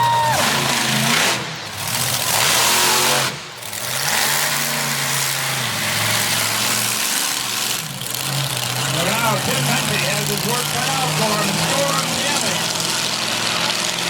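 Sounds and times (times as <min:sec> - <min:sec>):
monster truck engine roaring: 0:00.0 - 0:14.0.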